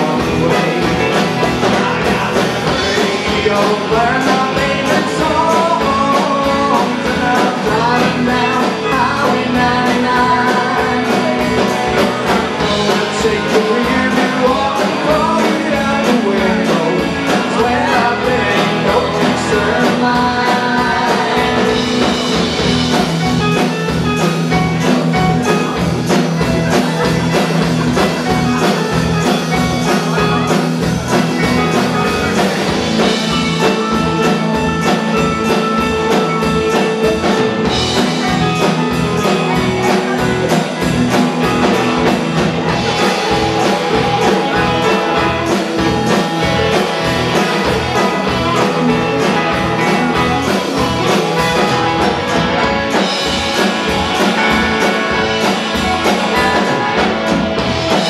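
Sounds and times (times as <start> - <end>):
bass guitar: 0.0 - 58.0
electric guitar: 0.0 - 58.0
keyboard: 0.0 - 58.0
steady drum beat: 0.0 - 58.0.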